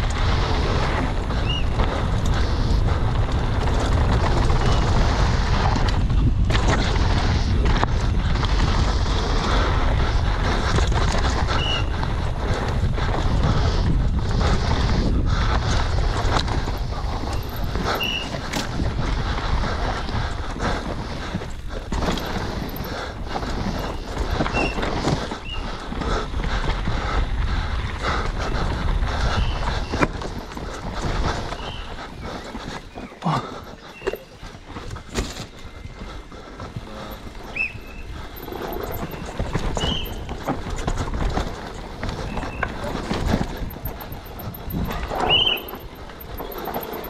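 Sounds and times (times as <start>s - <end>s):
bike rattling and knocking: 0.0s - 47.0s
tyres on loose dirt: 0.0s - 47.0s
wind rumble on microphone: 0.0s - 47.0s.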